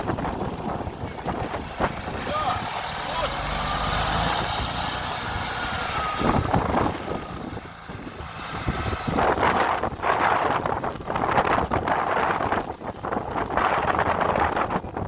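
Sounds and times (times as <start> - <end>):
heavy truck engine running: 0.0 - 15.0
wind buffeting microphone: 0.0 - 15.0.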